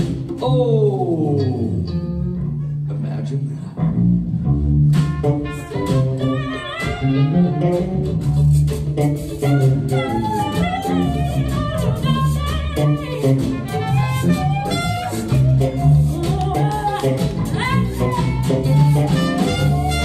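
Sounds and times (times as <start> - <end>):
drums: 0.0 - 2.0, 3.0 - 20.0
bass guitar groove: 0.0 - 20.0
sliding melodic lead line: 3.8 - 20.0.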